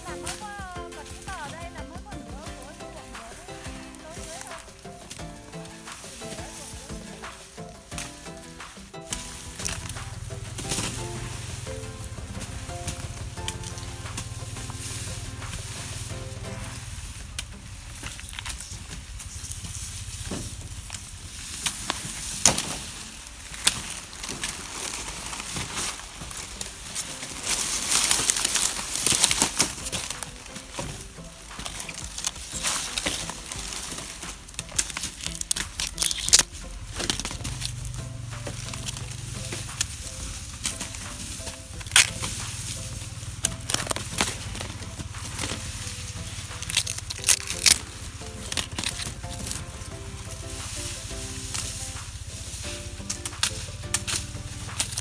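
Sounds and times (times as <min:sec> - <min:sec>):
dry leaves rustling: 0:00.0 - 0:55.0
knives chopping sugarcane: 0:00.0 - 0:55.0.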